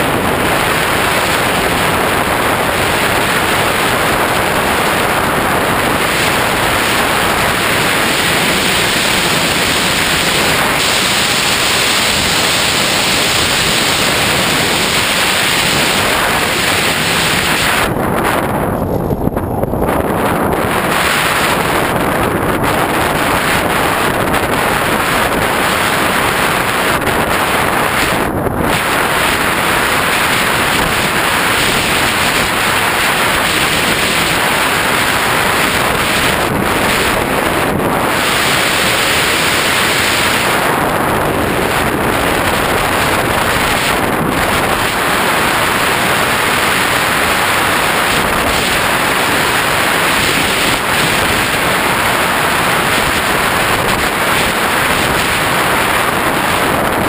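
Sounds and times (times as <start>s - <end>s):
airflow buffeting microphone: 0.0s - 57.0s.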